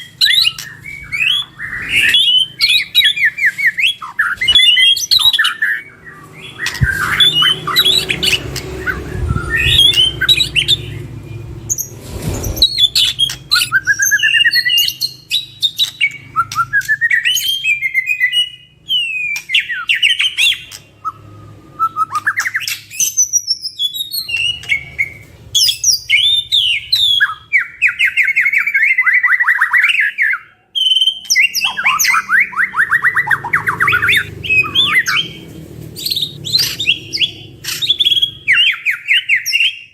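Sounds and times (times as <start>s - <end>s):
bird song with whistles and trills: 0.0s - 39.9s.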